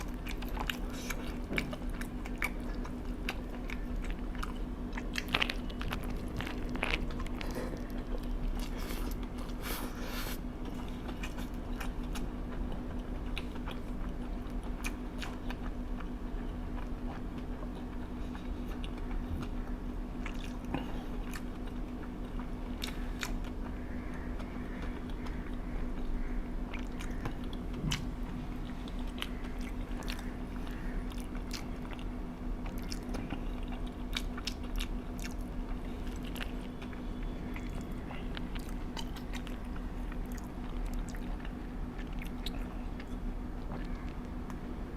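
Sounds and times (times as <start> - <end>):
person chewing and biting food: 0.0 - 44.6
steady low hum: 0.0 - 44.9.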